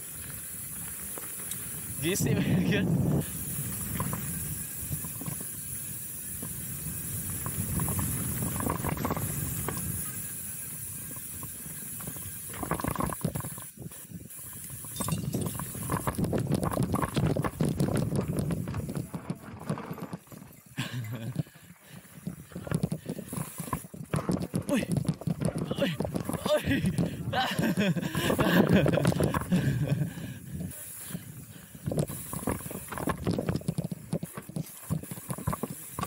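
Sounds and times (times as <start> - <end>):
bike clattering and rattling: 0.0 - 36.0
bike tyre rumble: 0.0 - 36.0
wind hiss: 0.0 - 36.0.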